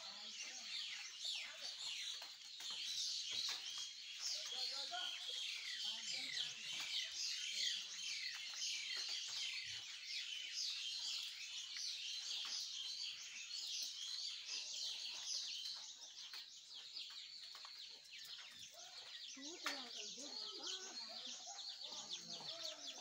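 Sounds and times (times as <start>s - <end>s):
chorus of small birds chirping: 0.0s - 23.0s.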